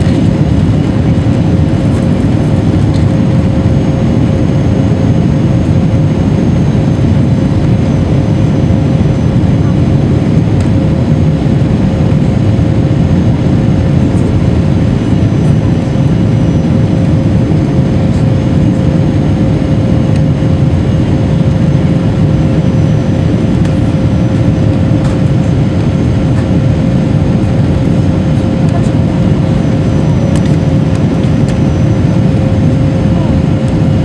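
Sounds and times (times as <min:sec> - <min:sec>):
jet engines and airflow rushing: 0:00.0 - 0:34.0
steady humming tone: 0:00.0 - 0:34.0.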